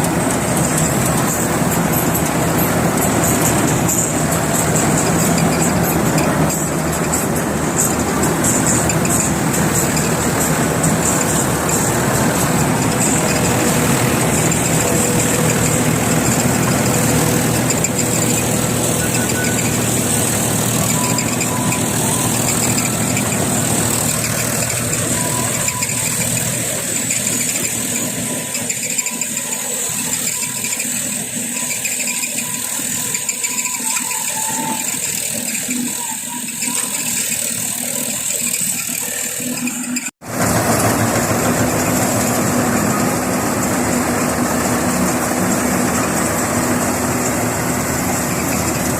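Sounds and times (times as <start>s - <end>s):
combine harvester engine: 0.0s - 48.9s
high-pitched whine: 0.0s - 48.9s.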